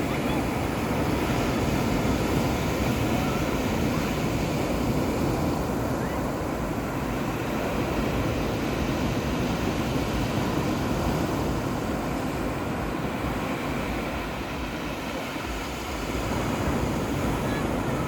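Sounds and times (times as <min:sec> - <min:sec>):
sea surf rushing: 0:00.0 - 0:18.0
wind buffeting microphone: 0:00.0 - 0:18.0.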